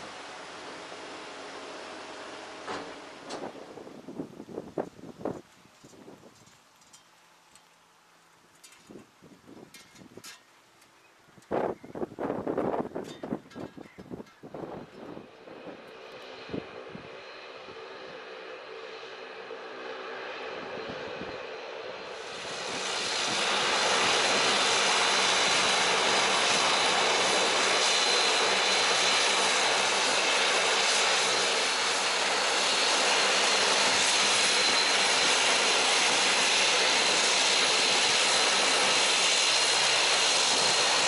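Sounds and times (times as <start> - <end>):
turboprop engines running: 0.0 - 6.2, 10.8 - 41.0
high engine whine: 0.0 - 7.0, 9.7 - 41.0.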